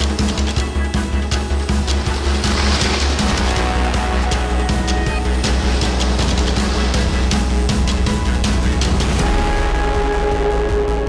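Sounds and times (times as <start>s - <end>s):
soundtrack music with heavy bass: 0.0s - 11.0s.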